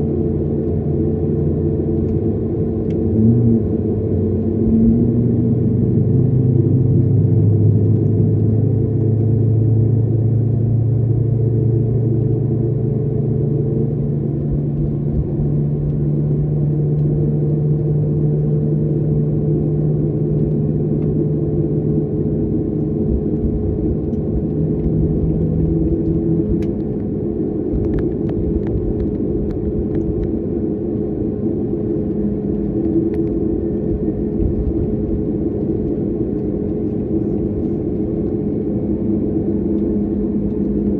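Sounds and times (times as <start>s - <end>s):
jet engine cabin rumble: 0.0s - 40.9s.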